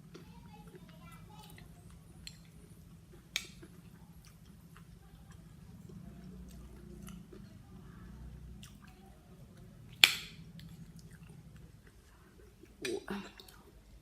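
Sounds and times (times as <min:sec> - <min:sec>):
chewing with wet clicks: 0:00.0 - 0:14.0.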